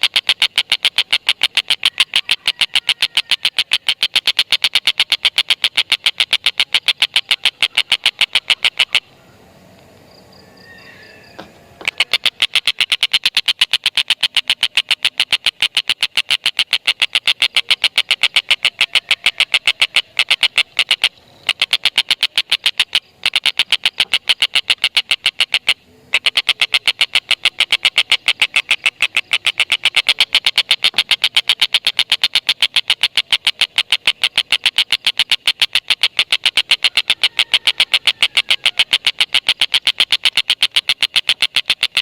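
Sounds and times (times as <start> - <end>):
kingfisher chattering: 0.0 - 9.1, 11.8 - 42.0.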